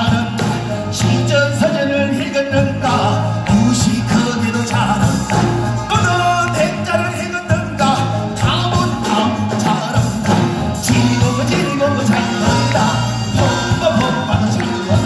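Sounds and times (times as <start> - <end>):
man singing with strong vibrato: 0.0 - 15.0
percussion: 0.0 - 15.0.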